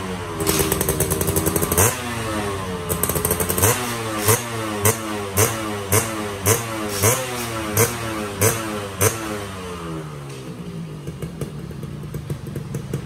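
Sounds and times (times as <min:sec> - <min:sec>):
two-stroke engine revving and idling: 0:00.0 - 0:13.0.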